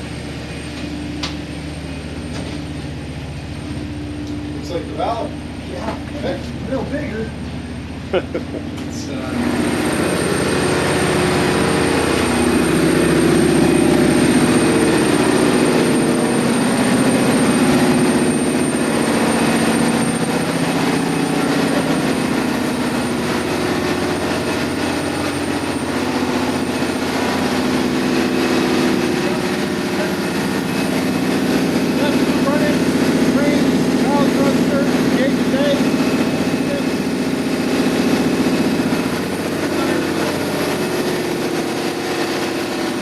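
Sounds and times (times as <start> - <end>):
engine-room machinery drone: 0.0 - 43.0
thin high whine: 0.0 - 43.0.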